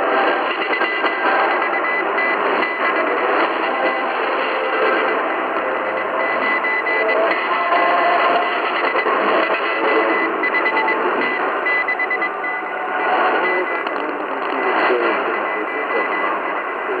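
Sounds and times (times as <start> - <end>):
morse code tone: 0.0 - 17.0
radio static hiss: 0.0 - 17.0
radio station audio: 0.0 - 17.0.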